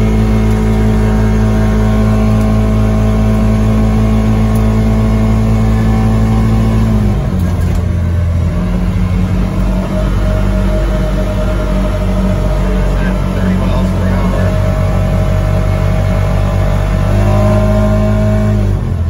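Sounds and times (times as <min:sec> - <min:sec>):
high-revving utility vehicle engine: 0:00.0 - 0:19.0.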